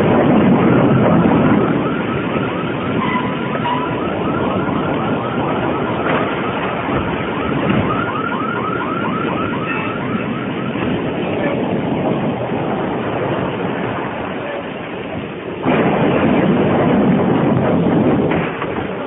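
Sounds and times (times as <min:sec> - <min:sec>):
strong wind blowing: 0:00.0 - 0:19.0.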